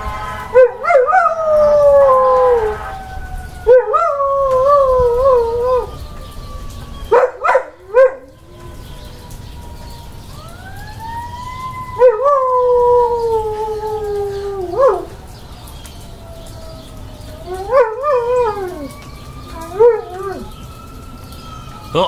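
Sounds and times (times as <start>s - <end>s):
faint siren: 0.0s - 22.0s
dog howling: 0.5s - 9.3s, 10.4s - 15.2s, 16.2s - 20.6s.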